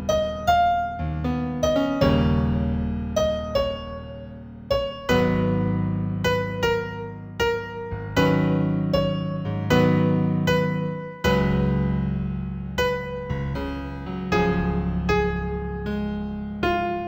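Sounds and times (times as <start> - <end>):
slow solo piano: 0.0 - 17.0.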